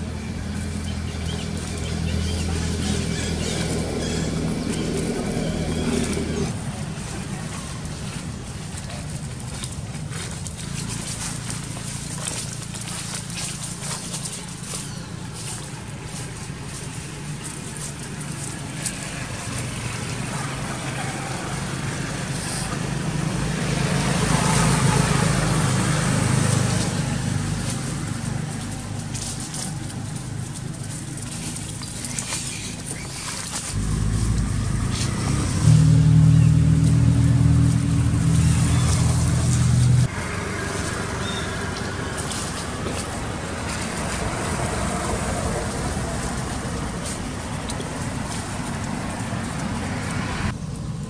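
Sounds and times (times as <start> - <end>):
dry leaves rustling: 0.0 - 51.0
vehicle engine running: 0.0 - 51.0.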